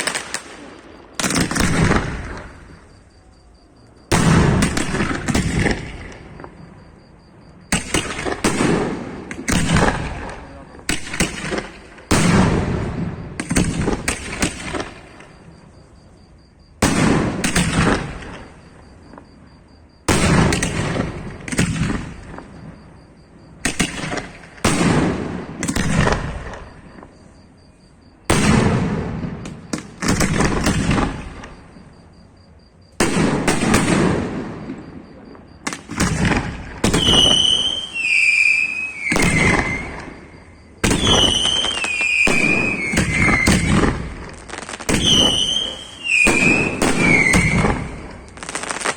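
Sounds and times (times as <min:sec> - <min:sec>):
fireworks bursting with bangs: 0:00.0 - 0:48.9
whistling fireworks: 0:00.0 - 0:48.9.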